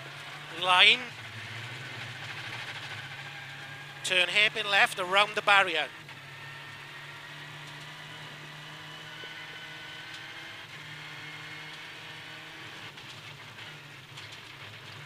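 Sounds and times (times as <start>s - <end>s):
gravel road noise: 0.0s - 15.0s
rally car engine running: 0.0s - 15.0s.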